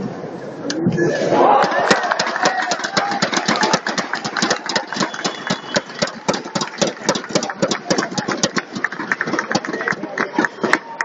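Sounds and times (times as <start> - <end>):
crowd applauding: 1.5 - 11.0.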